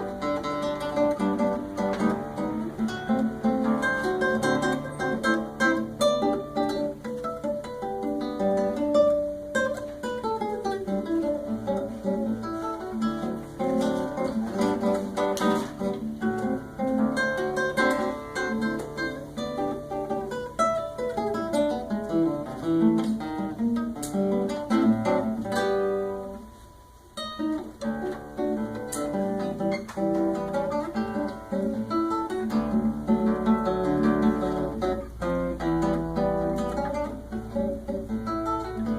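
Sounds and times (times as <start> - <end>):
classical guitar plucking: 0.0 - 38.9.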